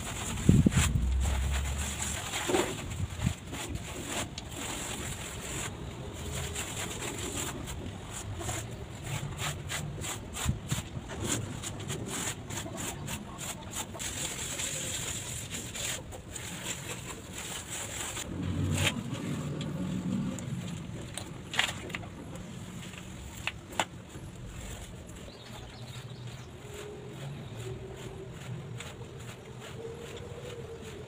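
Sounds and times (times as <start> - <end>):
sponge scrubbing ceramic tiles: 0.0 - 19.6, 24.2 - 31.0.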